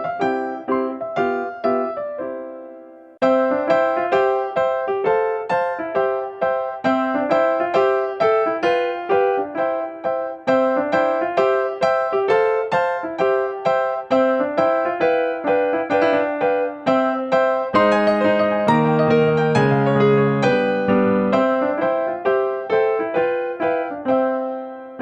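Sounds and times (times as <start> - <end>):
light piano melody: 0.0 - 25.0.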